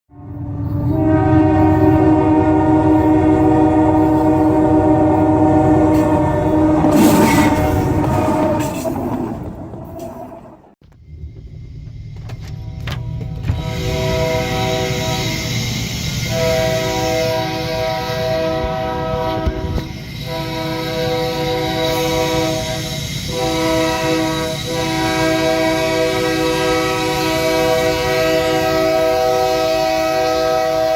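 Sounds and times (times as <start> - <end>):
locomotive air horn chord: 0.1 - 8.8, 12.9 - 30.9
train rumbling: 0.1 - 30.9.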